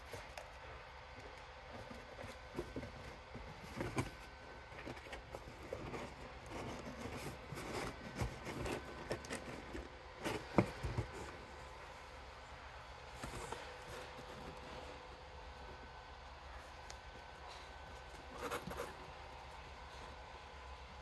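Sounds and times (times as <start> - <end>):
cats scratching cardboard: 0.0 - 21.0.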